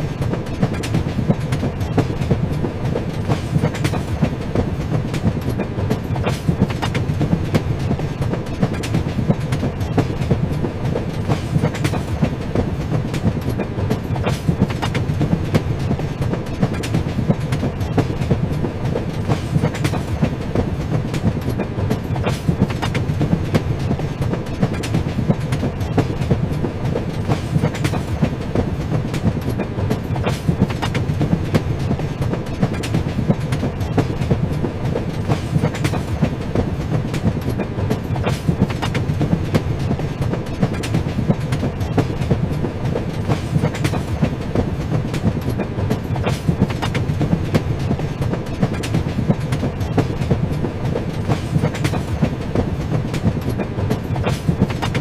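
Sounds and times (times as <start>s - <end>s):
train rumbling on rails: 0.0s - 55.0s
wheels clicking over track: 0.0s - 55.0s.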